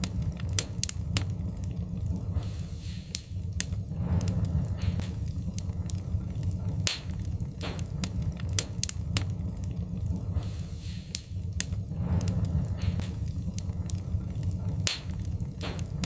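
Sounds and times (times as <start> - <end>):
fire hissing: 0.0 - 16.0
wood fire crackling: 0.0 - 16.0.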